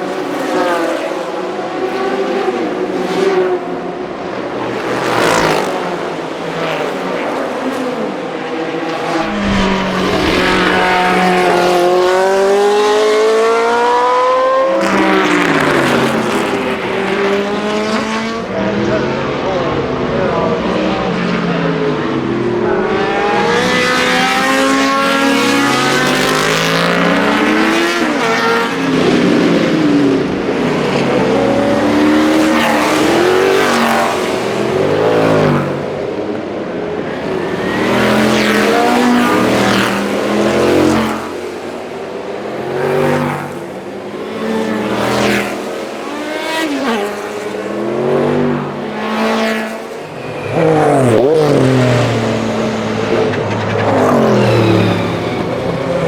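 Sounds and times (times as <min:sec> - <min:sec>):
race car engines revving: 0:00.0 - 0:56.0
race cars passing by: 0:00.0 - 0:56.0.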